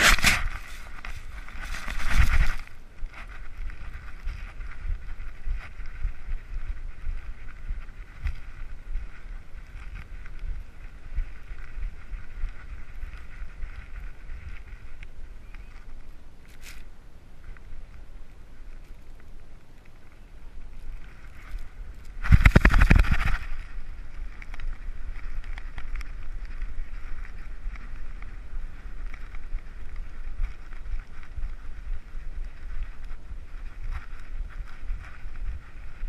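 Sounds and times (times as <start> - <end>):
scraping and rubbing against camera: 0.0 - 16.9, 20.8 - 36.0
muffled steady hiss: 0.0 - 36.0.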